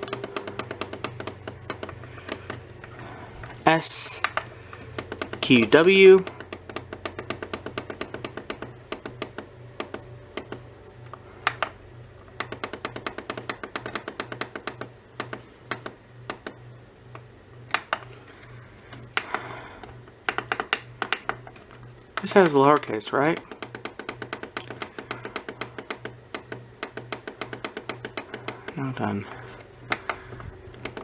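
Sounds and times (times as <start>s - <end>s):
computer keyboard typing: 0.0s - 2.9s, 4.2s - 10.6s, 11.4s - 16.6s, 17.7s - 18.2s, 18.9s - 31.0s.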